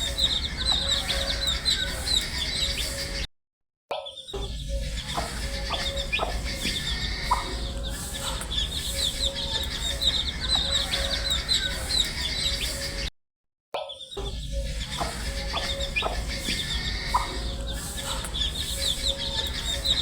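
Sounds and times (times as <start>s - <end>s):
baby chicks peeping: 0.0s - 3.2s, 4.6s - 13.1s, 14.1s - 20.0s.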